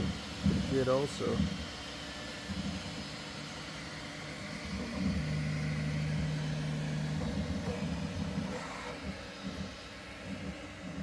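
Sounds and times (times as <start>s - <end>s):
printer motors and fans humming: 0.0s - 11.0s
steady low motor tone: 0.0s - 11.0s.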